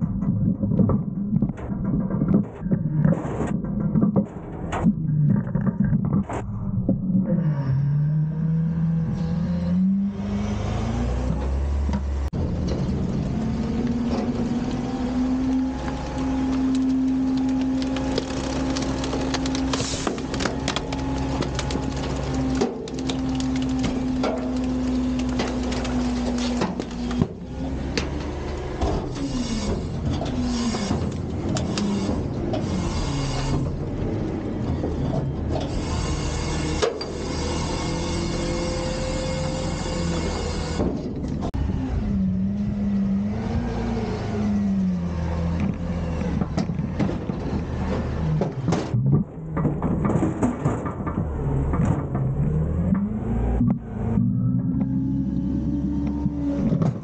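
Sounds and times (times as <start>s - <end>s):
garbage truck engine revving: 0.0s - 57.0s.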